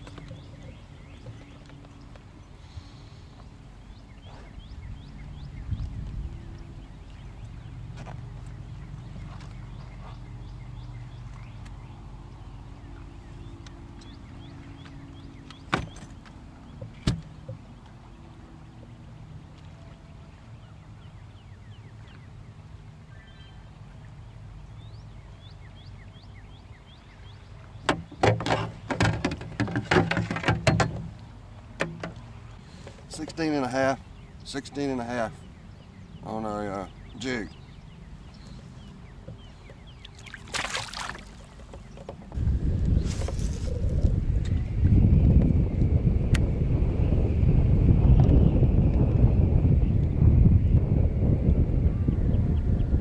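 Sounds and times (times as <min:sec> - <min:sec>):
low steady rumble: 0:00.0 - 0:53.0.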